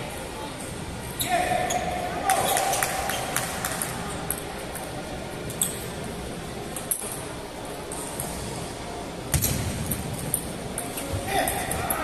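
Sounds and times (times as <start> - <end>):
murmur of large hall: 0.0 - 12.0.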